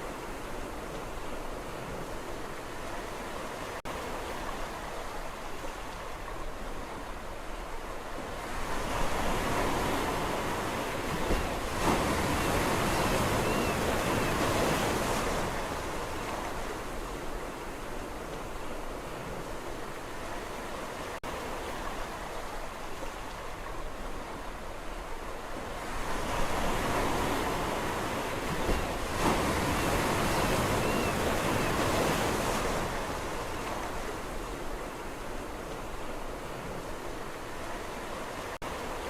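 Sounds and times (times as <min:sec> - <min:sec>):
sea waves washing on shore: 0:00.0 - 0:39.0.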